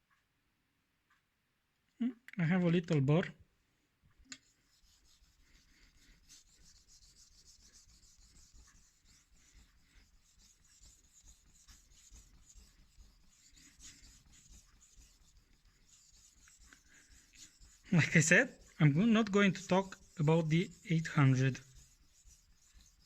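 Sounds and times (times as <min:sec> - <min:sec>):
knife scraping on whetstone: 0:04.4 - 0:23.0.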